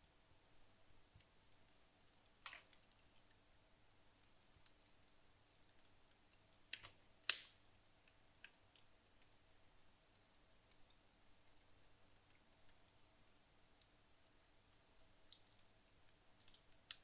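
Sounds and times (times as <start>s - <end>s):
wood logs crackling in fireplace: 0.0s - 17.0s.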